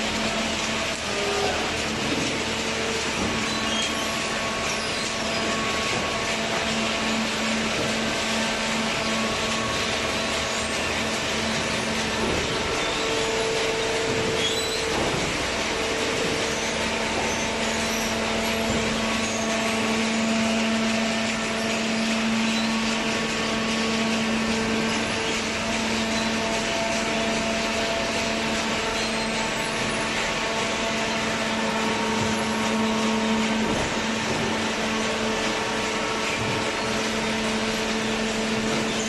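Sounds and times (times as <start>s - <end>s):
hydraulic motor and pump humming: 0.0s - 39.0s.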